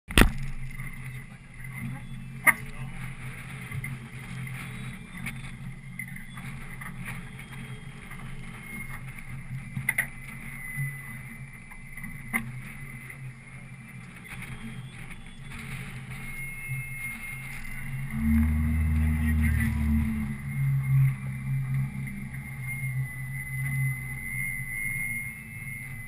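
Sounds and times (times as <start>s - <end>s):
boat motor running: 0.1s - 26.0s.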